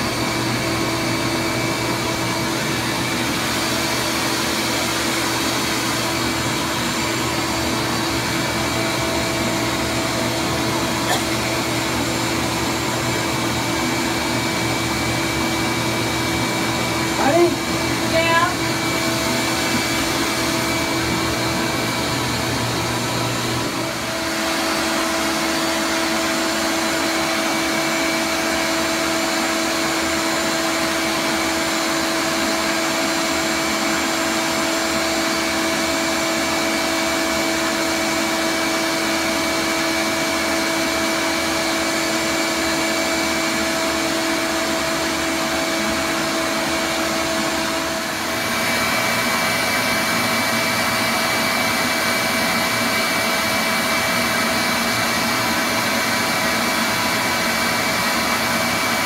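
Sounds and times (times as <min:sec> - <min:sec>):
vacuum motor whine: 0:00.0 - 0:59.0.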